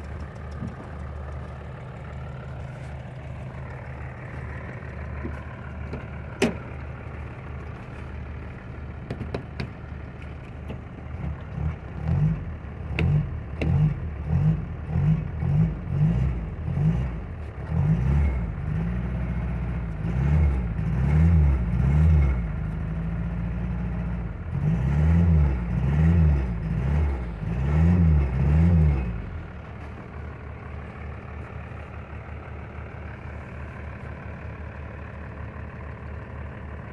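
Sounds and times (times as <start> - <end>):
truck engine idling and revving: 0.0 - 36.9.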